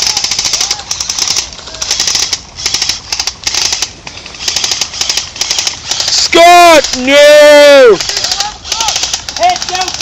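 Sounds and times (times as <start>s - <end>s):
airsoft rifle firing bursts: 0.0s - 10.0s.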